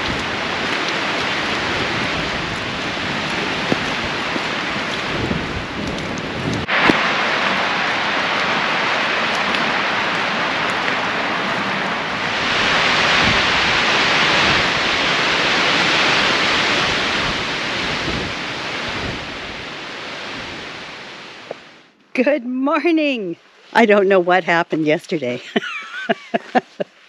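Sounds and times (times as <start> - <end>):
wind and rain storm: 0.0 - 24.1.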